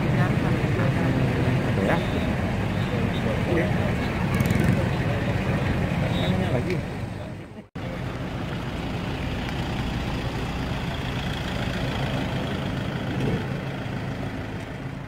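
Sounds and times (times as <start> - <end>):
minibus engine driving past: 0.0 - 15.0.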